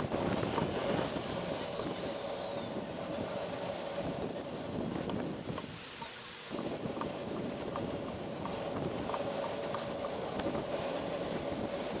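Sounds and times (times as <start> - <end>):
road and traffic noise: 0.0 - 12.0
wind buffeting microphone: 0.0 - 12.0.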